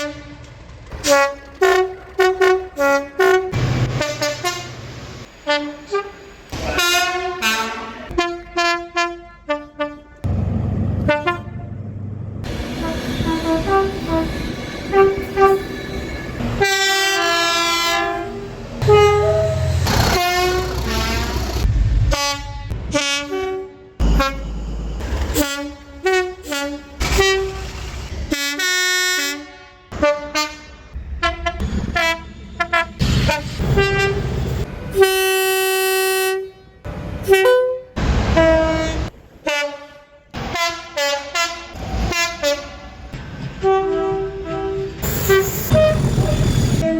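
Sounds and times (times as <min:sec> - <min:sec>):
train horn blasts: 0:00.0 - 0:10.3, 0:11.0 - 0:11.8, 0:12.5 - 0:24.5, 0:25.3 - 0:46.9
train rumble: 0:00.0 - 0:29.0, 0:29.9 - 0:46.9.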